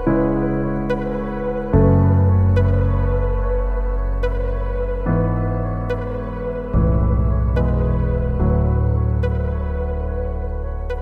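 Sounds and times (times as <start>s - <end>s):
slow new-age music: 0.0s - 11.0s.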